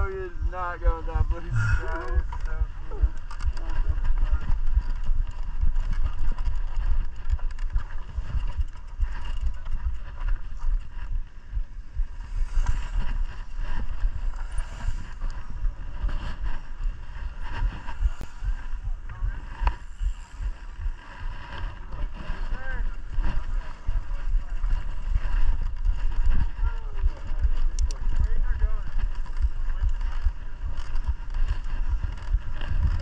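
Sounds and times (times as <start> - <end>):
wind buffeting microphone: 0.0 - 33.0
bike rattling and knocking: 1.6 - 33.0.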